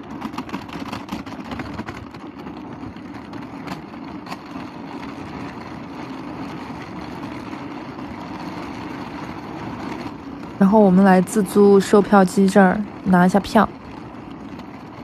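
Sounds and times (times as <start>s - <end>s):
suitcase wheels rumbling over paving: 0.0s - 15.0s.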